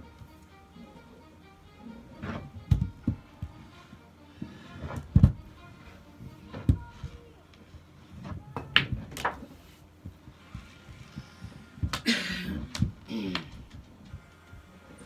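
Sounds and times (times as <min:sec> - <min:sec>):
balls rolling on table: 0:01.9 - 0:15.0.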